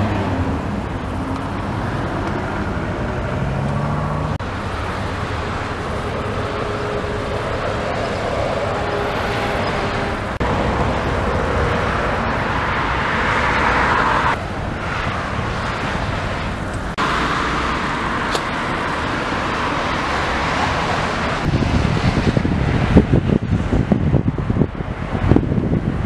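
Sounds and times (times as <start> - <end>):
motorway traffic passing: 0.0 - 26.0.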